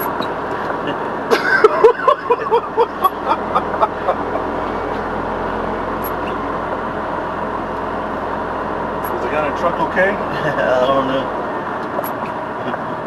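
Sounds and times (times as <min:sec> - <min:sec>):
truck cab running noise: 0:00.0 - 0:13.0.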